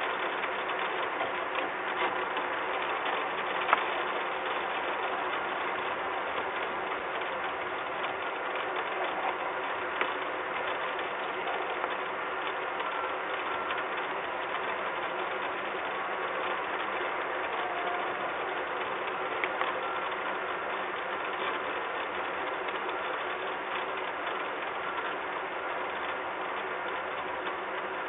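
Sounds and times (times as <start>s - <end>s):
rain on metal: 0.0s - 28.0s.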